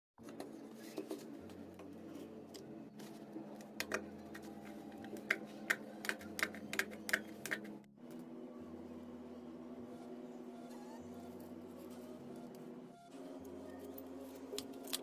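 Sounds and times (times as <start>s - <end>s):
low hum: 1.3s - 15.0s.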